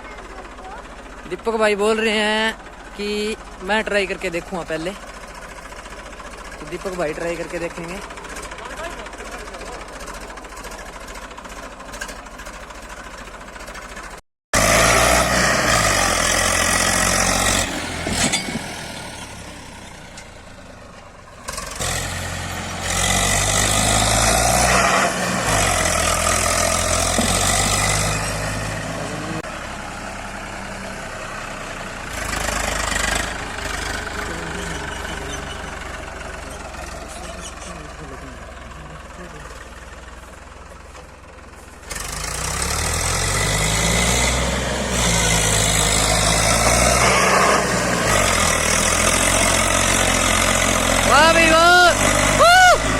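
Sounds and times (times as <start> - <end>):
tractor diesel engine revving: 0.0 - 52.9.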